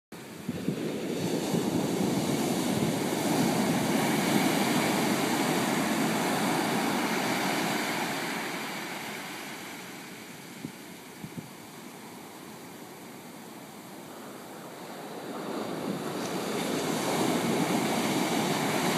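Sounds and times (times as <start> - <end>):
ocean waves breaking on beach: 0.2 - 18.9.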